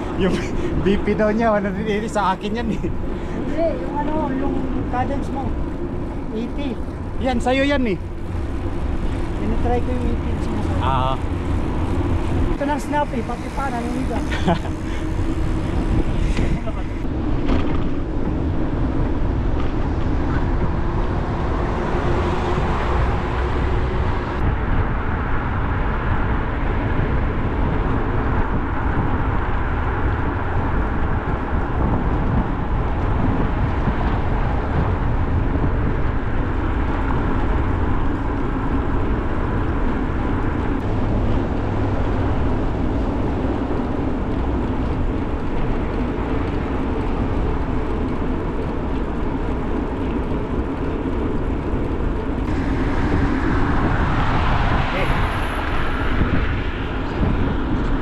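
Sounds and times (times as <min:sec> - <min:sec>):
bicycle tyres humming on road: 0:00.0 - 0:58.0
wind on microphone: 0:00.0 - 0:58.0.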